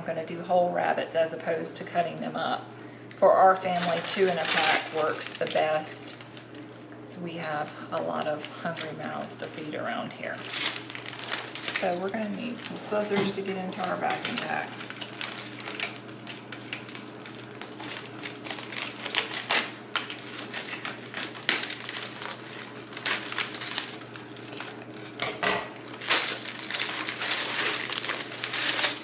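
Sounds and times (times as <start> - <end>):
plastic bag crinkling: 3.4 - 6.8, 7.5 - 29.0.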